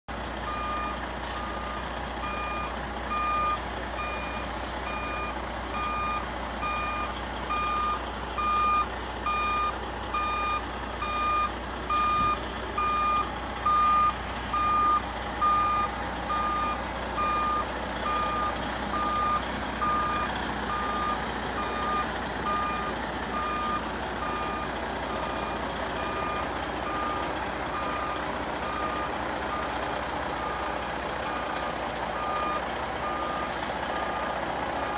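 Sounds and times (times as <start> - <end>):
diesel engine hum: 0.1 - 34.9
reversing alarm beeping: 0.4 - 34.9.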